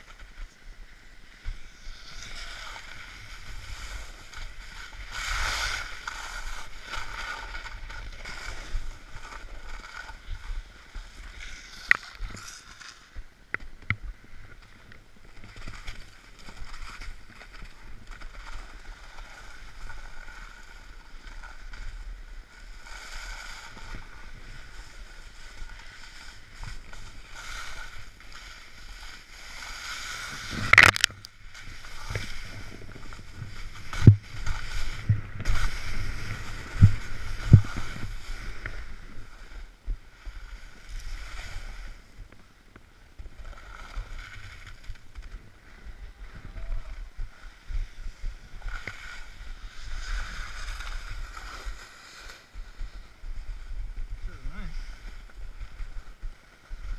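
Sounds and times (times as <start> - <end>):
snowboard sliding through snow: 0.0 - 56.9.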